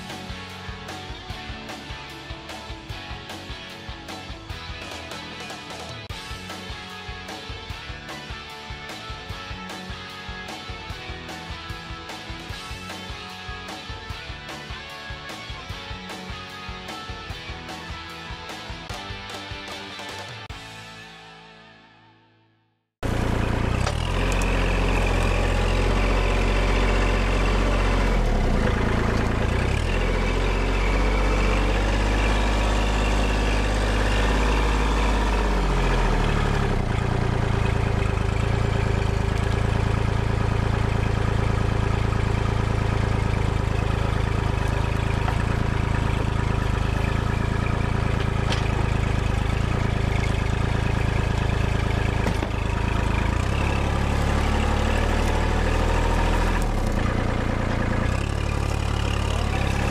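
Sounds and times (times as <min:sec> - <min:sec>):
tractor diesel engine running: 0:00.0 - 0:16.3, 0:23.0 - 0:59.9.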